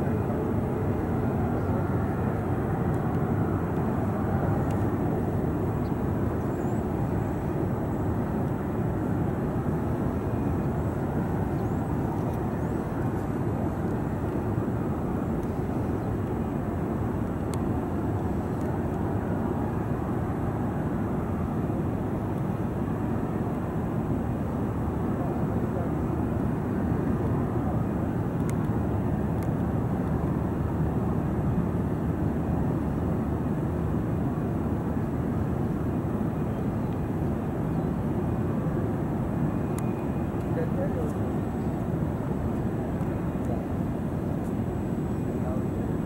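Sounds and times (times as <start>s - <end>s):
jet engines rumbling: 0.0s - 30.8s, 37.0s - 46.0s.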